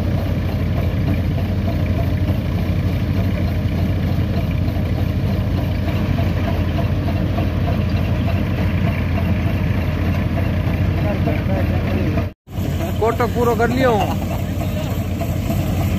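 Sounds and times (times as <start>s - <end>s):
tractor engine driving thresher: 0.0s - 15.9s.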